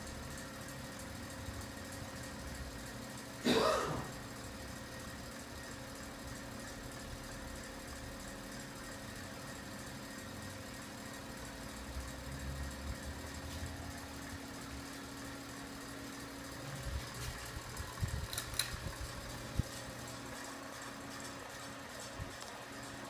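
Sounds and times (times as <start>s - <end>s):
ceiling fan motor hum: 0.0s - 23.0s.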